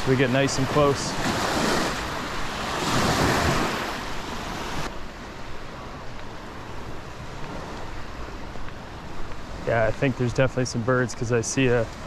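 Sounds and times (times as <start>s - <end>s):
small waves washing on sand: 0.0s - 5.0s, 6.0s - 12.0s.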